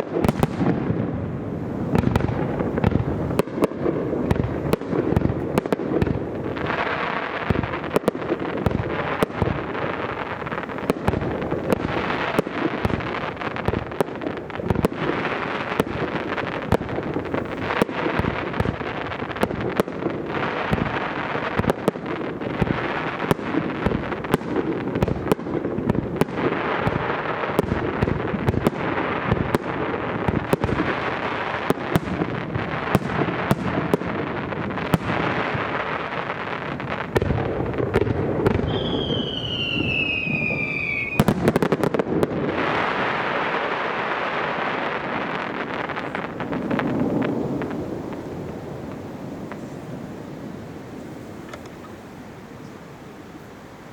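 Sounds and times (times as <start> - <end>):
fireworks bangs: 0.0 - 53.9
fireworks crackling: 0.0 - 53.9.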